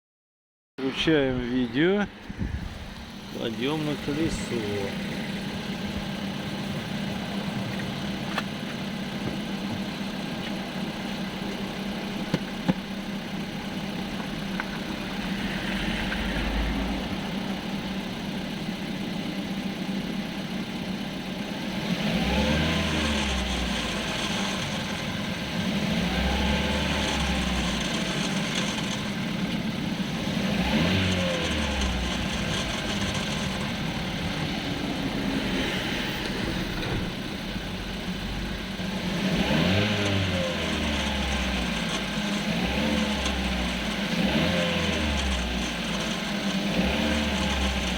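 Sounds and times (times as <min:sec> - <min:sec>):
car engine idling and revving: 0:00.8 - 0:47.9.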